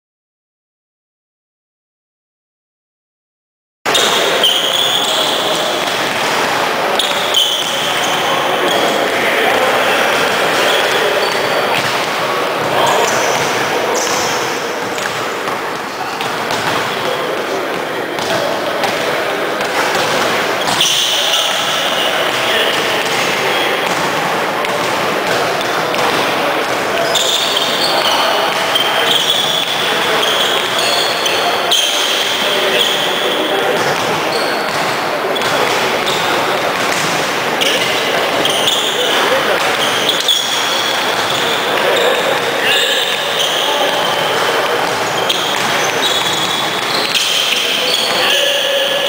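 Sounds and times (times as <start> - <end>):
basketballs bouncing on court: 3.9 - 49.0
voices echoing in hall: 3.9 - 49.0.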